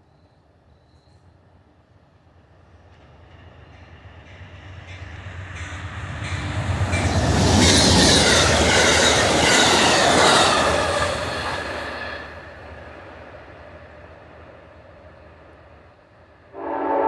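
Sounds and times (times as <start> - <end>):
diesel locomotive engine: 1.4 - 17.0
train wheels on rails: 1.9 - 16.4.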